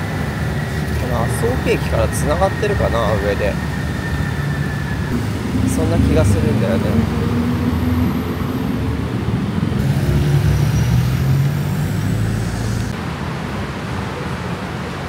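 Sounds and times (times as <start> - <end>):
street traffic noise: 0.0 - 15.0
vehicle engine low hum: 0.0 - 15.0.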